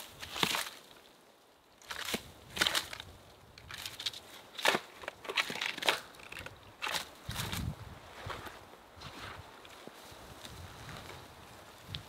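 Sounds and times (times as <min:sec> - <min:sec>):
footsteps crunching through dry brush: 0:00.0 - 0:01.1, 0:01.8 - 0:12.0.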